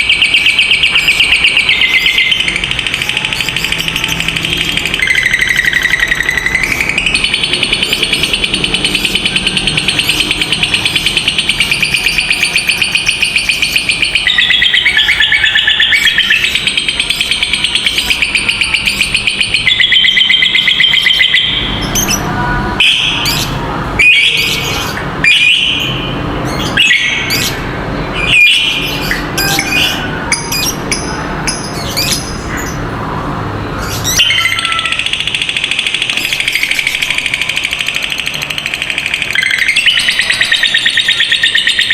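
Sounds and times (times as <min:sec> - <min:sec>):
bird chirps and squawks: 0:00.0 - 0:32.9, 0:33.7 - 0:41.9
bird chattering trill: 0:00.0 - 0:33.0, 0:33.7 - 0:41.9.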